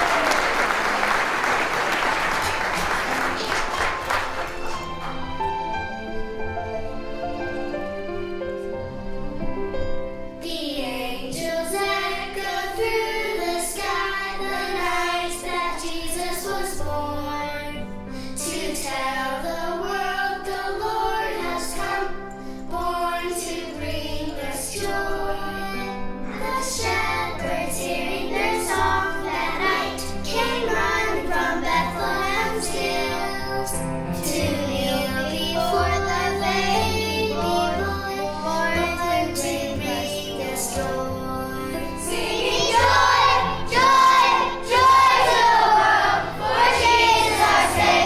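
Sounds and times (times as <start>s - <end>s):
children singing: 0.0s - 7.9s, 10.4s - 48.0s.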